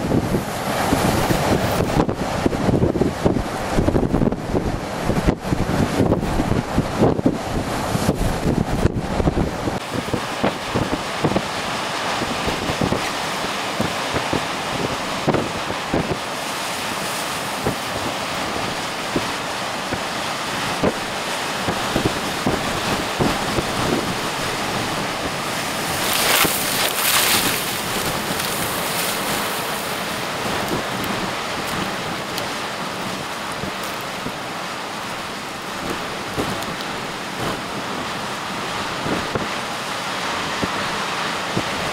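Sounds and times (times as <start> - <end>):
breaking surf: 0.0 - 41.9
wind gusting on microphone: 0.0 - 41.9.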